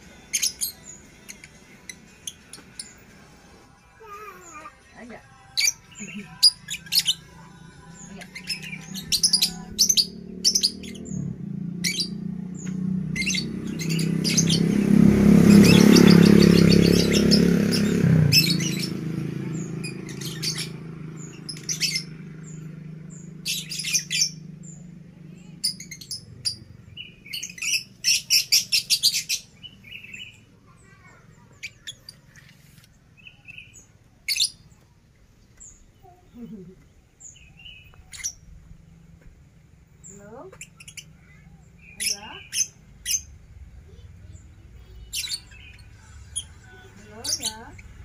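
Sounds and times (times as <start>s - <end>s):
songbird chirping: 0.0s - 48.0s.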